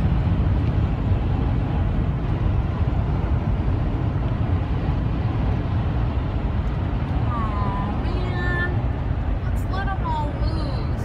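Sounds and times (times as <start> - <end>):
vehicle and road rumble: 0.0 - 11.0.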